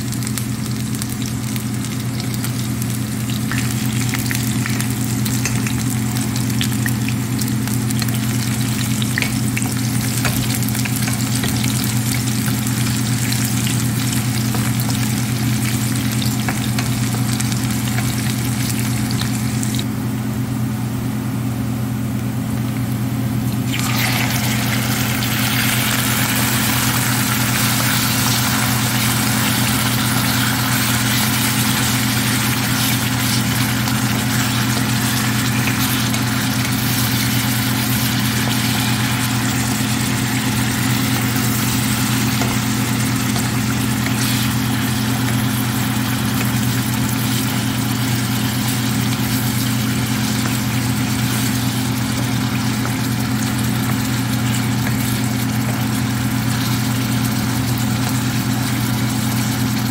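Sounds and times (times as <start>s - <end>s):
food sizzling in a frying pan: 0.0s - 19.8s, 23.4s - 59.9s
steady low hum: 0.0s - 59.9s.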